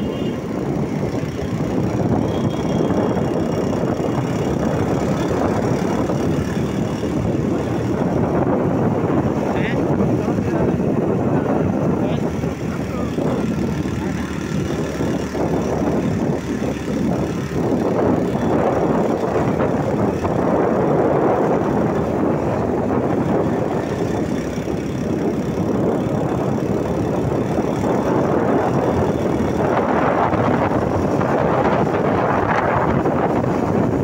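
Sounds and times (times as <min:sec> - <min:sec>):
motorcycle engine running: 0:00.0 - 0:34.0
road noise: 0:00.0 - 0:34.0
wind rushing: 0:00.0 - 0:34.0.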